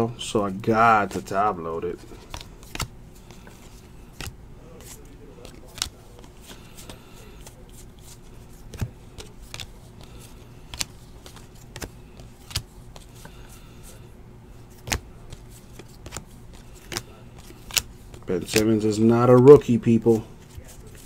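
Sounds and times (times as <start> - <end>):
card edges clicking: 0.5 - 21.0
trading cards flipped by hand: 1.0 - 14.0, 14.7 - 21.0.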